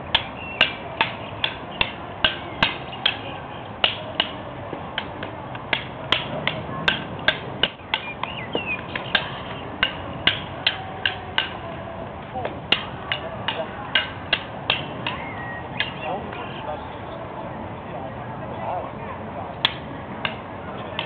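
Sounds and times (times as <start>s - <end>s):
rattan sticks clacking: 0.1s - 16.4s, 19.6s - 21.0s.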